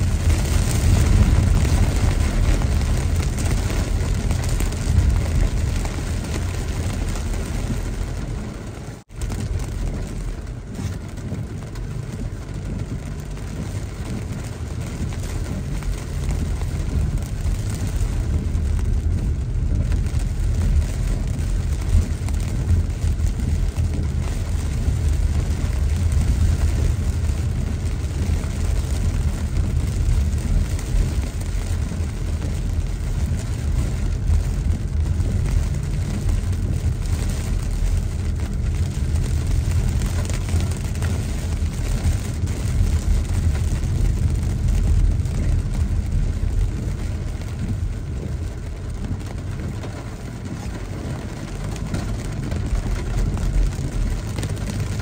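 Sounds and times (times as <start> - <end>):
car rumbling on wet road: 0.0 - 55.0
rain hissing on windshield: 0.0 - 55.0.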